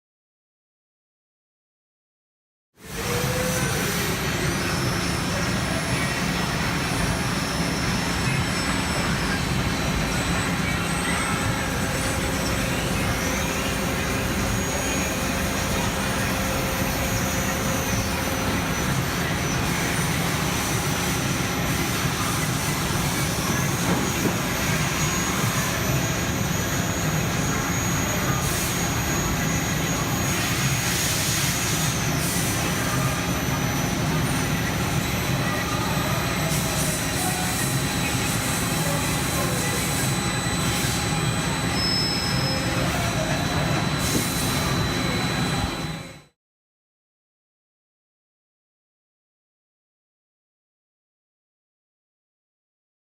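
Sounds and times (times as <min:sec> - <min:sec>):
high-pitched drive whines: 0:02.8 - 0:46.4
lathe machine hum: 0:03.0 - 0:46.1.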